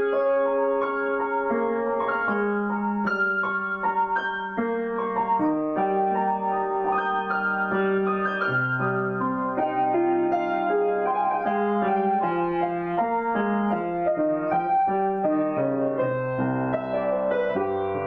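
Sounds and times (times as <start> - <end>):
solo piano improvisation: 0.0 - 18.0.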